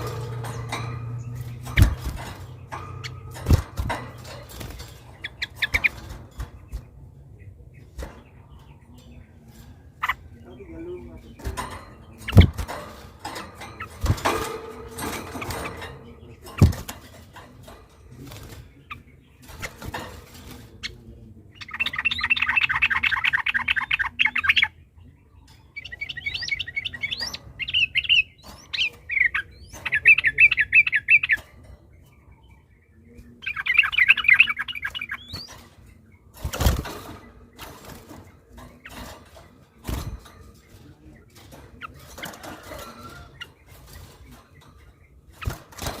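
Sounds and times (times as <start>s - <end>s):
bird chattering song: 0.0s - 46.0s.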